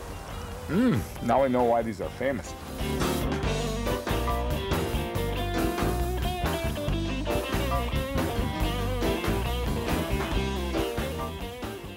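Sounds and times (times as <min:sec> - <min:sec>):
electric guitar over bass and drums: 0:00.0 - 0:11.9.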